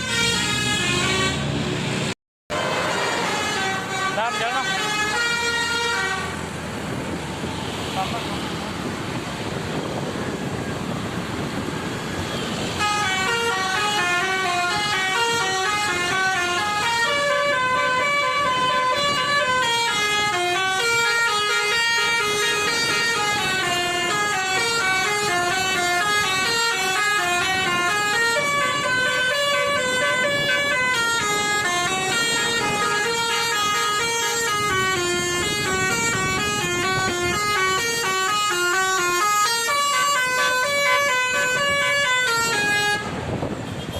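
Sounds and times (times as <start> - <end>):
musical bus horn melody: 0.0 - 1.6, 2.5 - 6.4, 12.3 - 43.9
road and engine noise: 0.0 - 43.9.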